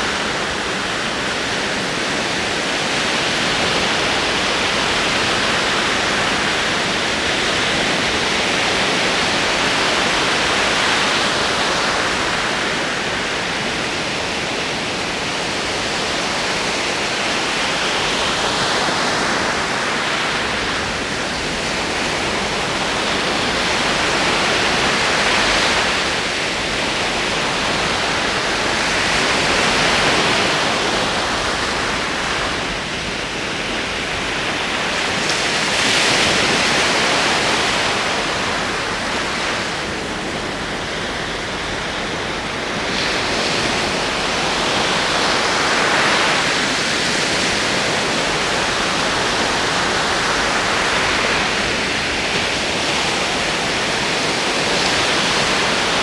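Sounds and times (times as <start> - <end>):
ocean waves washing up: 0.0 - 56.0.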